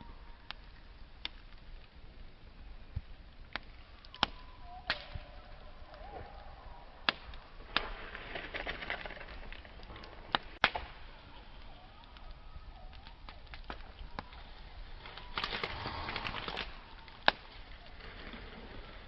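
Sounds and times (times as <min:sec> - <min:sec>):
burning wood popping: 0:00.0 - 0:19.0
fine fire crackling: 0:00.0 - 0:19.0
steady low hiss: 0:00.0 - 0:19.0.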